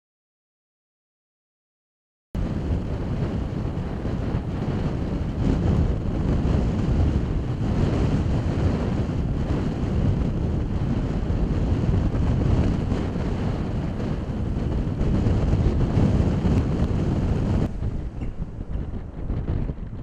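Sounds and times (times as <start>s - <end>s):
ocean surf breaking: 2.4s - 19.6s
wind buffeting microphone: 2.4s - 20.0s.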